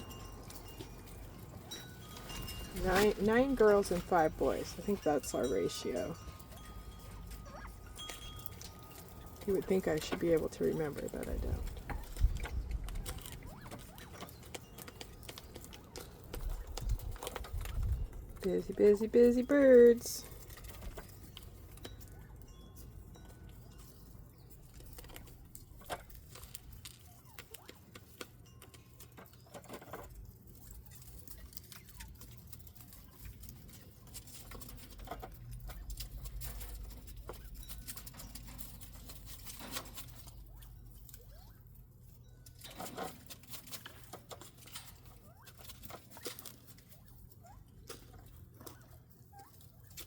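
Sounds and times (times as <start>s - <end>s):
quail pecking and scratching: 0.0s - 50.0s.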